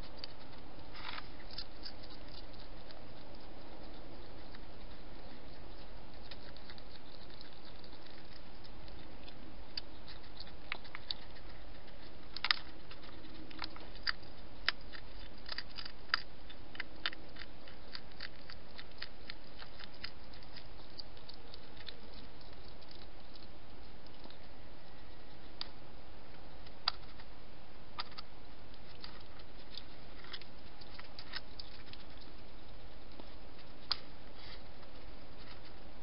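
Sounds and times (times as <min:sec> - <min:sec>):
hedgehog crunching dry food: 0:00.0 - 0:36.0
steady background hiss: 0:00.0 - 0:36.0.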